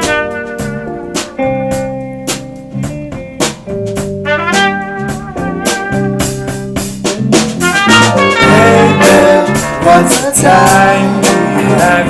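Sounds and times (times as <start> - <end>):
brass melody: 0.0 - 2.2, 4.1 - 12.0
drum kit hits: 0.0 - 12.0.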